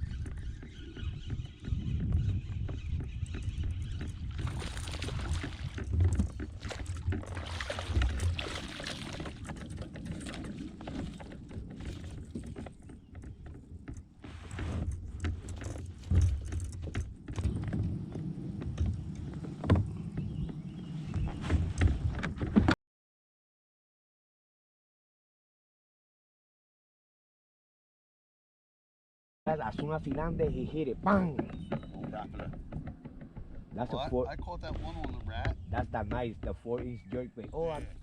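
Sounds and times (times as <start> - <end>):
paddle in water: 0.0 - 22.8, 29.7 - 38.0.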